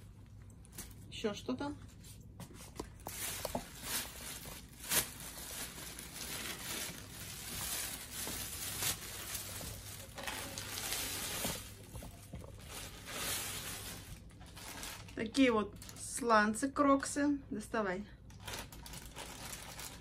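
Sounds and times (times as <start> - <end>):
plastic bag rustling and crinkling: 1.9 - 16.4, 18.3 - 20.0.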